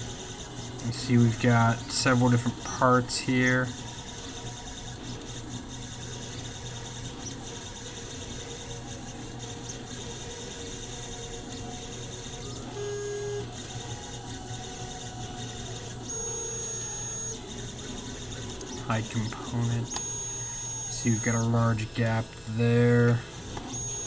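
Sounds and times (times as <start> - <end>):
printer mechanical hum: 0.0 - 24.0
stepper motor tones: 0.0 - 24.0.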